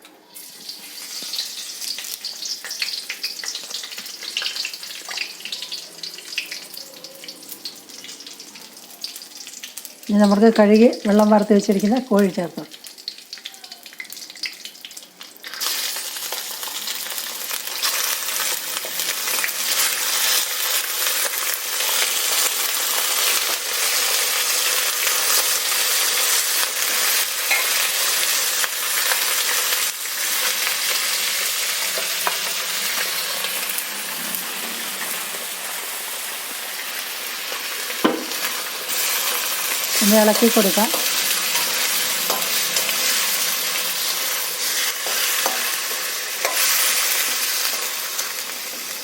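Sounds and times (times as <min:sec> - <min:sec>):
chicken sizzling in hot oil: 0:00.3 - 0:49.0.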